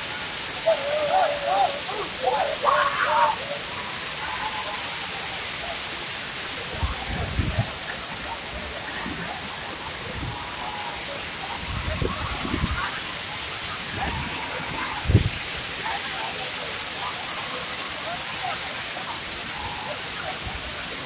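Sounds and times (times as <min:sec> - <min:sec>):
faint crowd voices: 0:00.0 - 0:21.0
waterfall rushing: 0:00.0 - 0:21.0.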